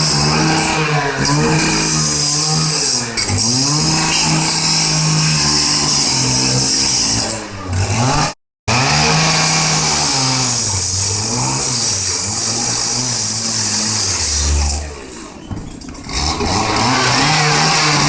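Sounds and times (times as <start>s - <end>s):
chainsaw cutting metal: 0.0s - 18.0s.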